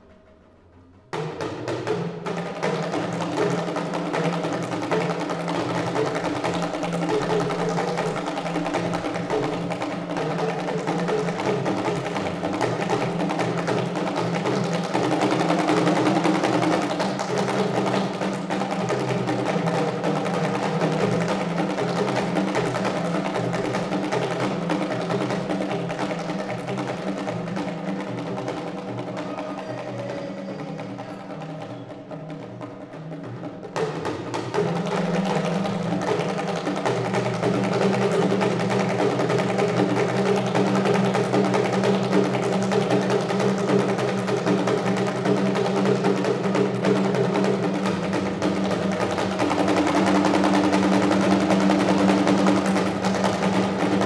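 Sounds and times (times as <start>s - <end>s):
hand drums fast rhythm: 1.1s - 54.0s.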